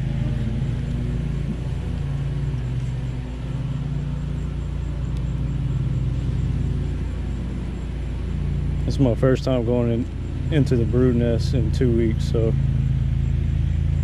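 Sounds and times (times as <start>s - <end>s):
honeybees humming: 0.0s - 14.0s.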